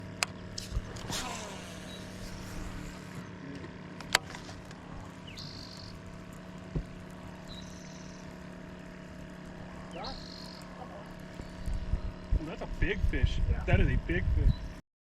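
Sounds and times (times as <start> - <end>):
boat motor humming: 0.0 - 14.8.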